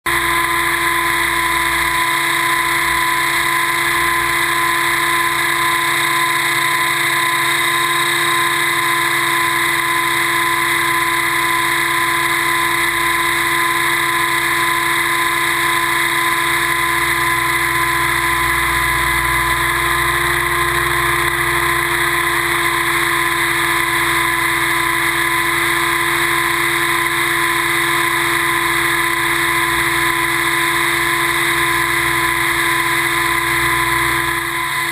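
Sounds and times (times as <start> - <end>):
model helicopter rotor whine: 0.0 - 34.9.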